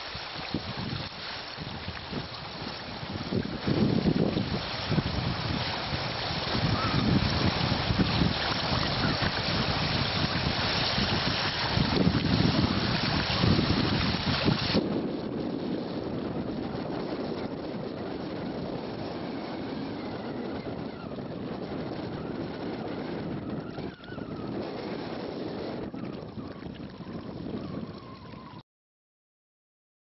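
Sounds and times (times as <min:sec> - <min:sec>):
wind buffeting microphone: 0:00.0 - 0:28.6.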